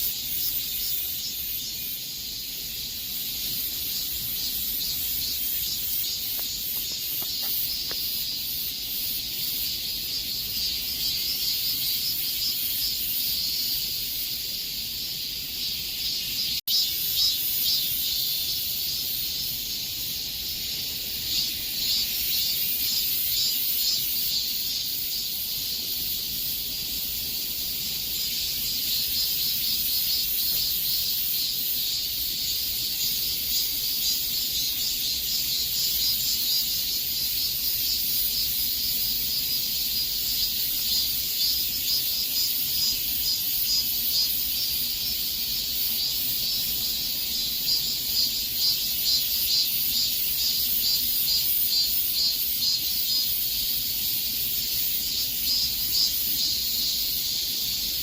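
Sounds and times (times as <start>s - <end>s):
cicadas buzzing in chorus: 0.0s - 58.0s.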